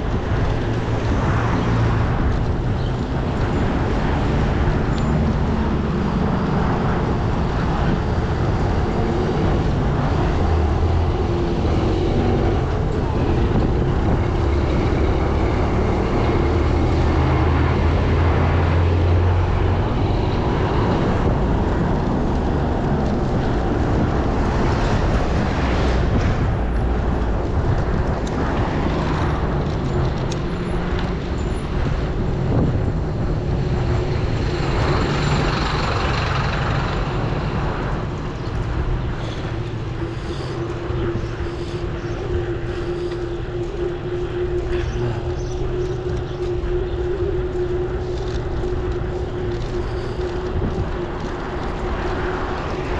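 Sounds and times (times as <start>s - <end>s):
road rumble: 0.0s - 52.9s
wind noise: 0.0s - 52.9s.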